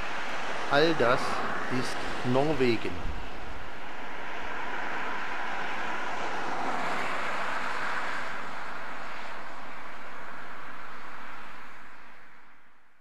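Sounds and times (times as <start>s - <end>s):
vehicle passing on road: 0.0s - 13.0s.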